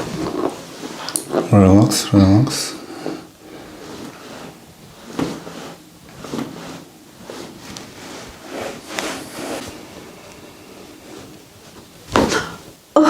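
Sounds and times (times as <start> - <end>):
hands rubbing skin and clothing: 0.0 - 12.8.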